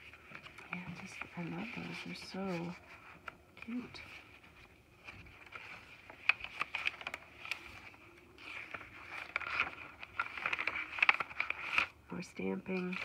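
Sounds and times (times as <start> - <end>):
page flipping: 0.0 - 12.0, 12.6 - 13.0
paper pages rustling: 0.0 - 13.0.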